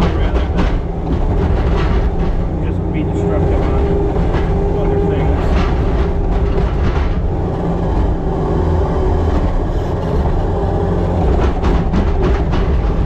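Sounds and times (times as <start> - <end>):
farm machine engine rumble: 0.0 - 13.0
rattling: 0.0 - 13.0.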